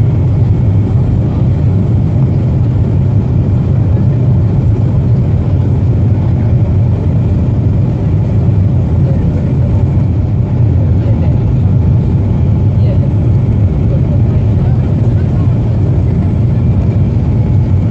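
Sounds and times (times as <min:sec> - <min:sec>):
airplane cabin engine rumble: 0:00.0 - 0:17.9.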